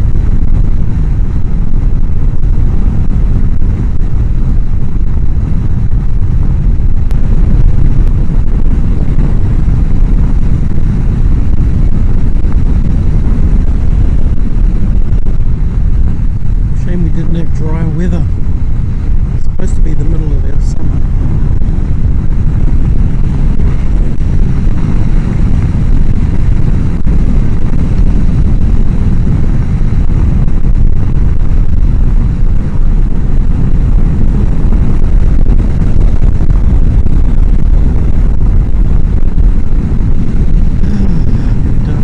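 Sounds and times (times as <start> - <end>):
wind roar on helmet microphone: 0.0 - 42.0.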